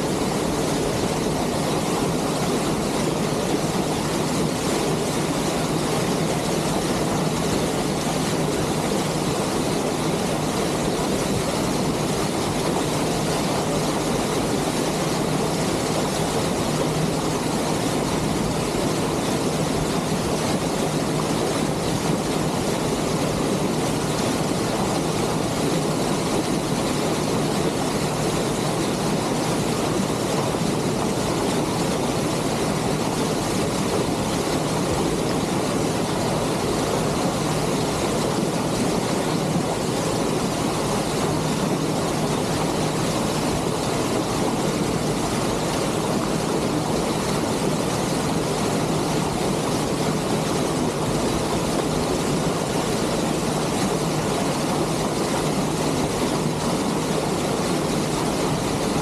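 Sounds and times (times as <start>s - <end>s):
water rushing along bow: 0.0s - 59.0s
wind: 0.0s - 59.0s.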